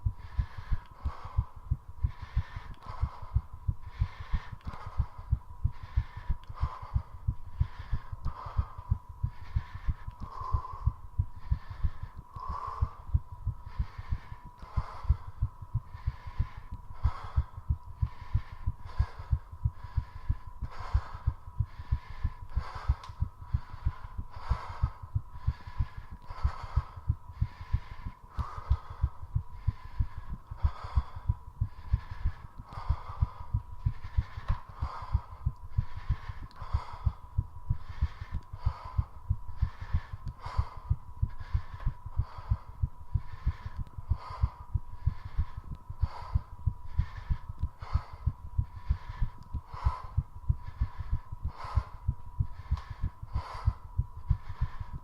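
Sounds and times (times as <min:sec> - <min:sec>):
fast heartbeat thumping: 0:00.0 - 0:55.0
heavy rhythmic breathing: 0:00.0 - 0:55.0.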